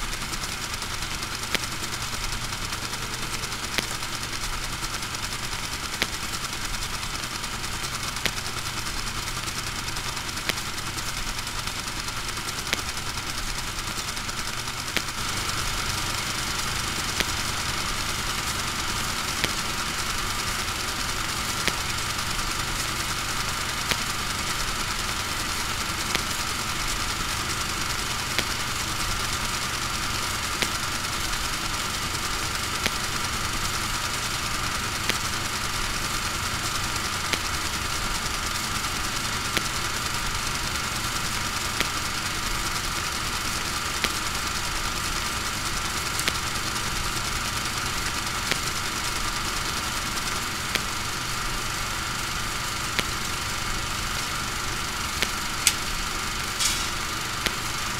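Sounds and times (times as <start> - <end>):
machine drone with low hum: 0.0 - 57.9
sharp clicks: 0.0 - 57.9.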